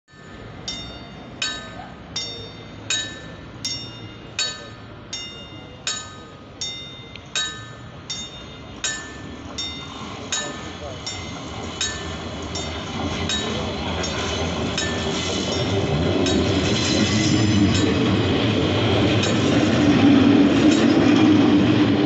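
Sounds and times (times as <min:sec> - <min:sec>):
electric train rumble: 0:00.1 - 0:22.0
railway warning bell: 0:00.1 - 0:22.0.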